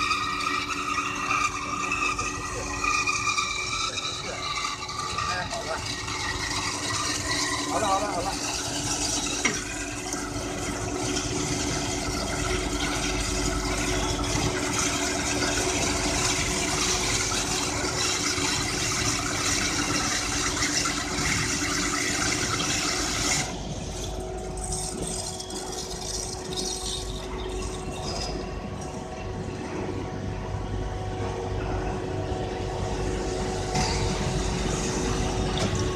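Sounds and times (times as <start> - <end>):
band saw motor hum: 0.0 - 35.9.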